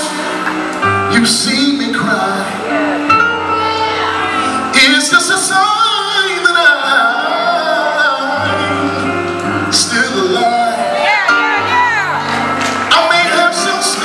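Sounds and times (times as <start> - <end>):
man singing into a microphone: 0.0 - 11.6, 12.8 - 14.0
band accompaniment: 0.0 - 14.0.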